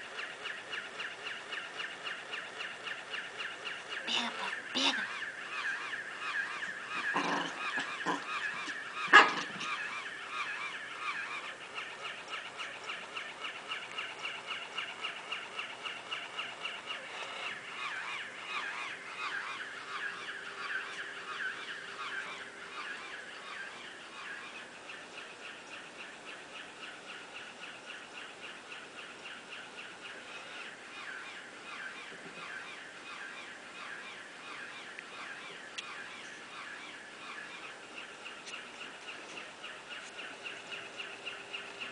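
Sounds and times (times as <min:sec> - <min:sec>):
walking toy rhythmic pulses: 0:00.0 - 0:41.9.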